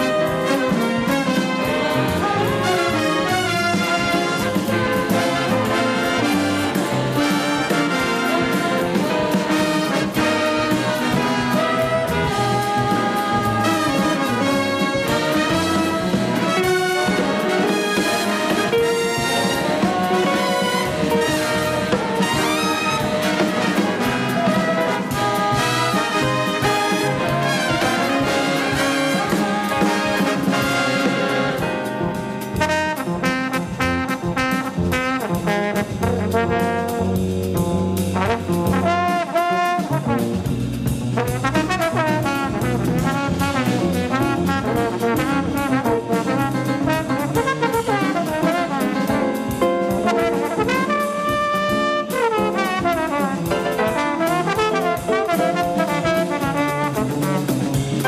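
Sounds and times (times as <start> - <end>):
jazz big band playing: 0.0 - 58.0
trumpets and trombones: 0.0 - 58.0.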